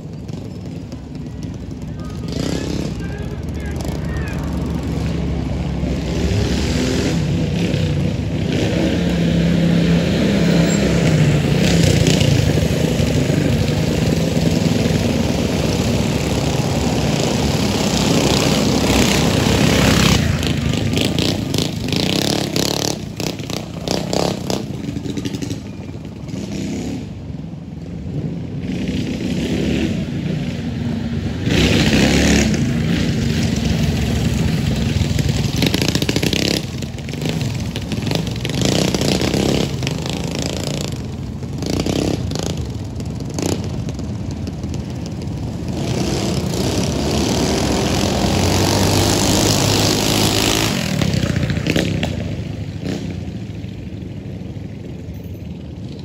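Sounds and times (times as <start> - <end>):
mini bike engines revving: 0.0 - 56.0.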